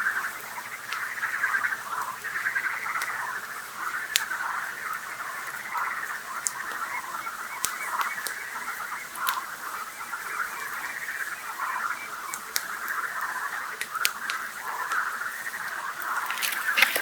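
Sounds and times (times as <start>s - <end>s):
campfire crackles: 0.0s - 17.0s
frog chorus croaking: 0.0s - 17.0s.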